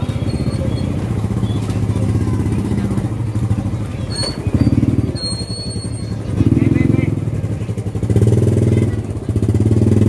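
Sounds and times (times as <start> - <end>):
motorcycle engine chugging: 0.0 - 10.0.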